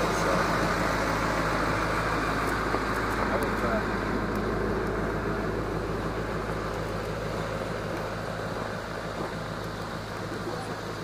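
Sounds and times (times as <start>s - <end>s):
engine running with low drone: 0.0s - 11.0s.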